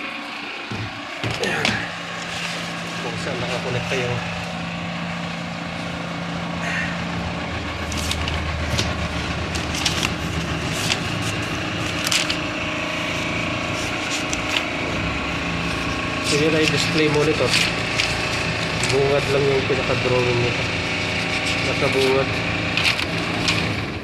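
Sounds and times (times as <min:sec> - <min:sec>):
low machinery hum: 0:00.0 - 0:24.0
pages rustling and turning: 0:00.7 - 0:05.2, 0:07.3 - 0:23.9.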